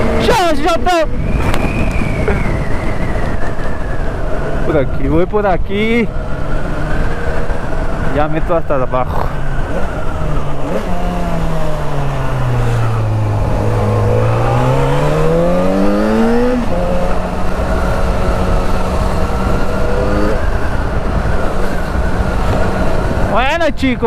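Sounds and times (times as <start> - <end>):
motorcycle engine: 0.0 - 24.0
wind noise: 0.0 - 24.0.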